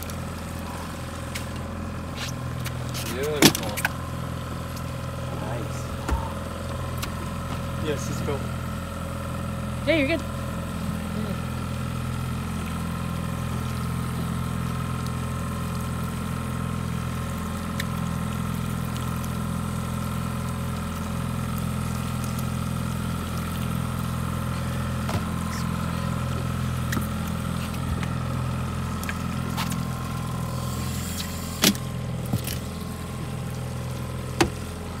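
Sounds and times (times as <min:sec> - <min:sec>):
outboard motor idling: 0:00.0 - 0:35.0.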